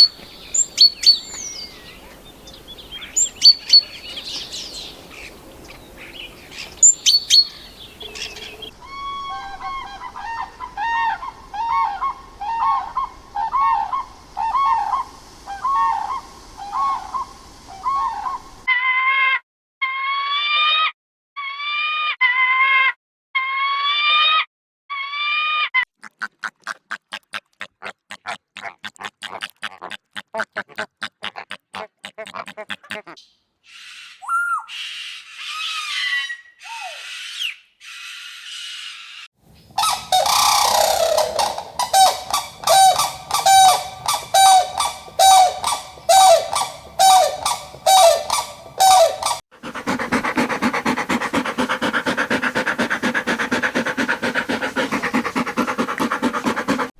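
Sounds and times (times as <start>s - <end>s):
farm animal and bird calls: 0.0s - 18.7s, 28.2s - 56.9s.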